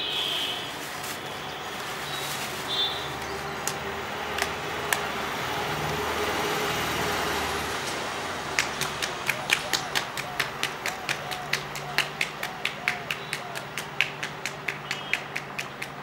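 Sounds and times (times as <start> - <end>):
engine running: 0.8 - 16.0.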